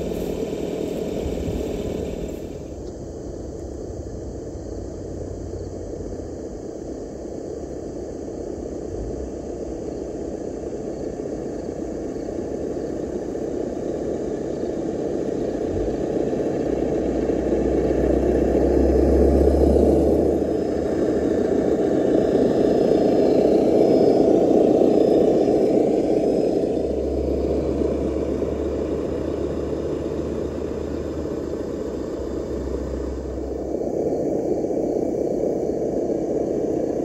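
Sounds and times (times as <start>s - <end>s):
simulated engine sound from speaker: 0.0s - 37.0s.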